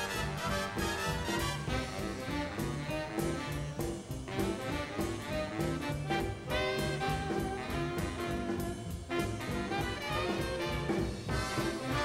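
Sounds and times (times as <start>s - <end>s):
upbeat swing jazz music: 0.0s - 12.0s.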